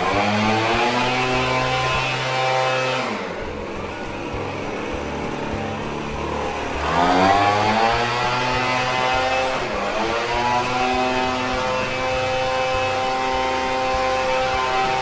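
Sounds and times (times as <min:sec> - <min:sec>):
leaf blower whining: 0:00.0 - 0:15.0.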